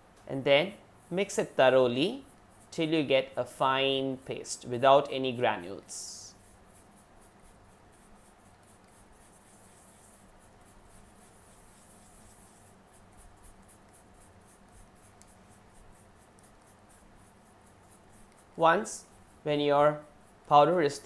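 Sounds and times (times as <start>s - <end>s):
low room hum: 0.0s - 21.0s
paintbrush scratching in bowl: 0.6s - 21.0s.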